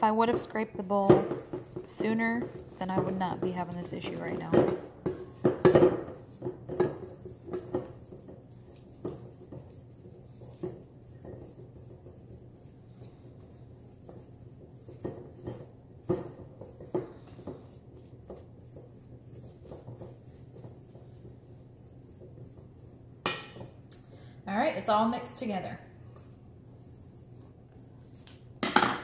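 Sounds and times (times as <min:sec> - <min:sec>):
wooden spoon stirring cream: 0:00.0 - 0:23.8, 0:26.7 - 0:28.4.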